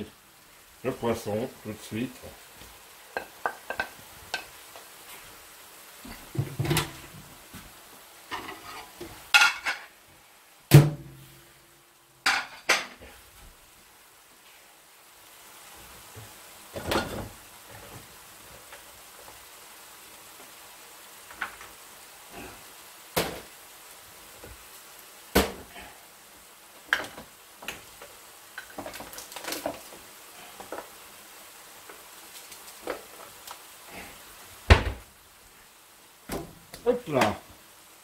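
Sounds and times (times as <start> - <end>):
food sizzling in a frying pan: 0.0 - 38.0.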